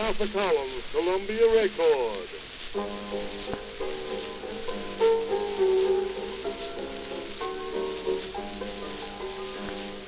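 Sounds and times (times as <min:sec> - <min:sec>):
old phonograph instrumental tune: 0:00.0 - 0:10.0
record surface hiss and crackle: 0:00.0 - 0:10.0.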